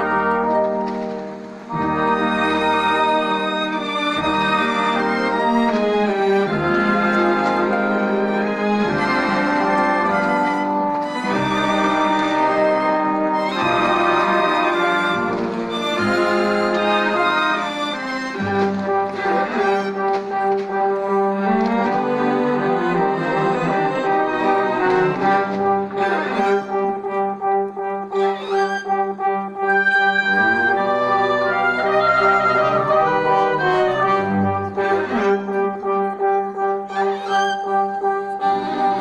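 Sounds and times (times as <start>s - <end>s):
brass sustained chords: 0.0s - 39.0s
strings: 0.0s - 39.0s.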